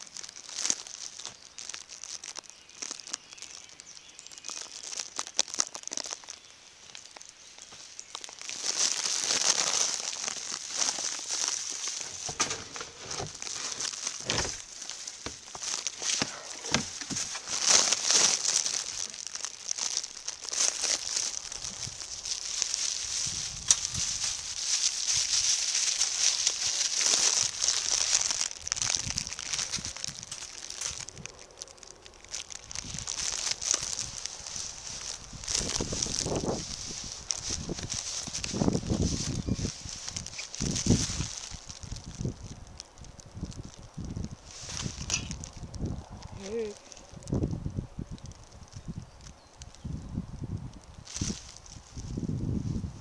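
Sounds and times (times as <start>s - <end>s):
rustling through long grass: 0.0s - 53.0s.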